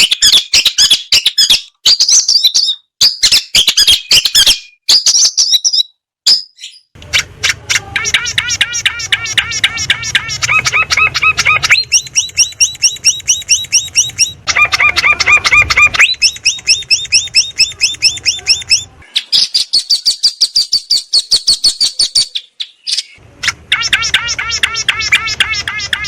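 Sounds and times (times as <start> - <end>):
bird chirping rapidly: 0.0 - 26.0.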